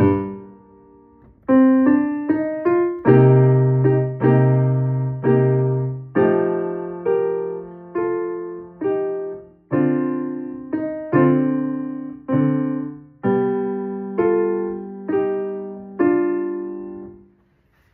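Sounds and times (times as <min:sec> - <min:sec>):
piano chords ringing: 0:00.0 - 0:17.4.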